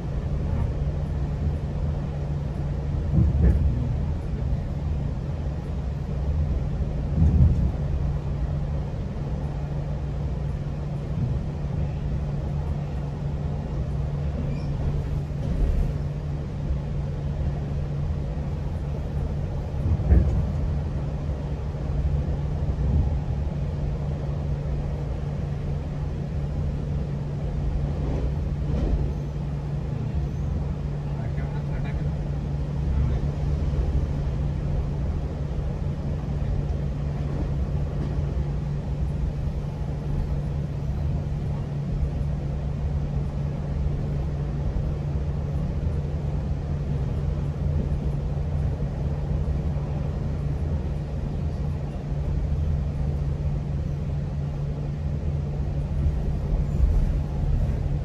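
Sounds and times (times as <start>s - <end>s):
train rumbling along track: 0.0s - 58.0s.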